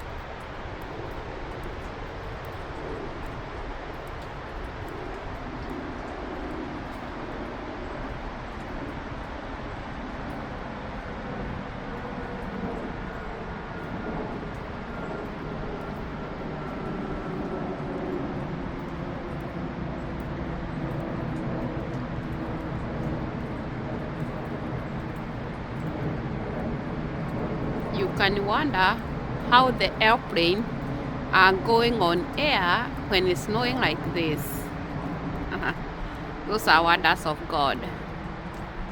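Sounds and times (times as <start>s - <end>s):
jet airliner flying overhead: 0.0s - 38.9s.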